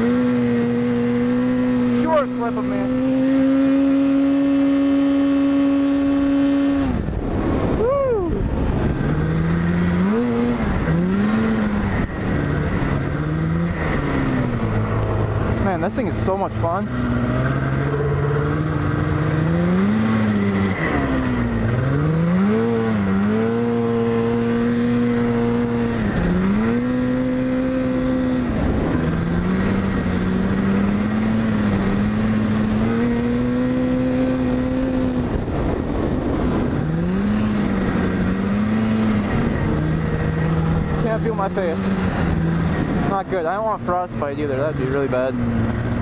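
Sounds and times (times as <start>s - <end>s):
snowmobile engine running: 0.0s - 46.0s.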